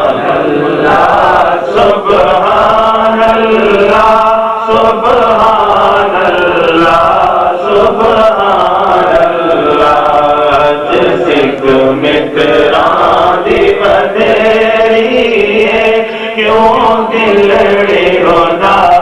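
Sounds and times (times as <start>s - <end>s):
men chanting a melody: 0.0s - 19.0s.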